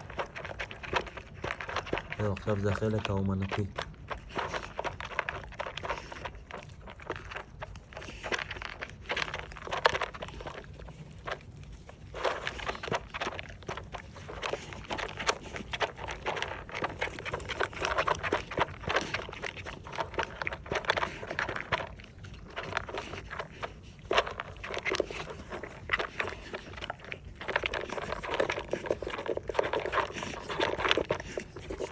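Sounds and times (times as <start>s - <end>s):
dog licking and chewing food: 0.0s - 31.9s.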